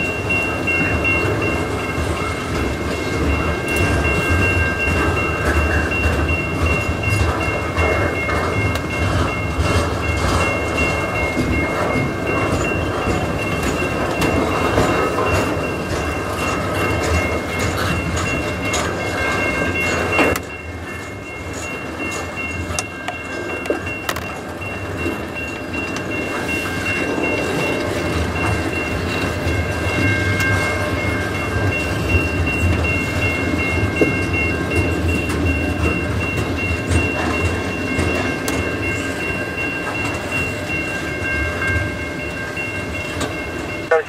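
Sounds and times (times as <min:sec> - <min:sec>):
freight train clacking over rail joints: 0:00.0 - 0:44.0.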